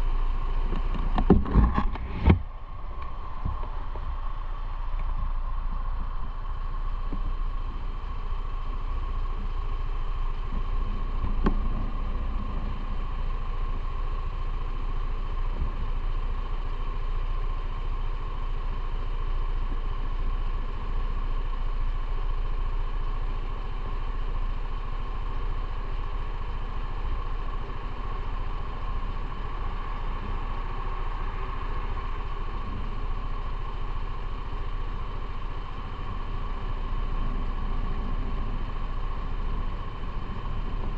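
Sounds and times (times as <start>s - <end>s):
wind and road noise: 0.0s - 18.4s, 23.0s - 40.9s
motorcycle engine running: 0.0s - 40.9s.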